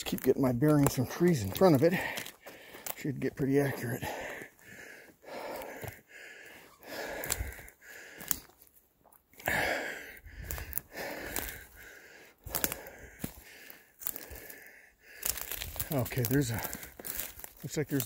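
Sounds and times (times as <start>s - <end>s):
leaves and twigs crackling underfoot: 0.0s - 6.0s, 6.6s - 18.0s
man breathing heavily: 0.9s - 17.6s.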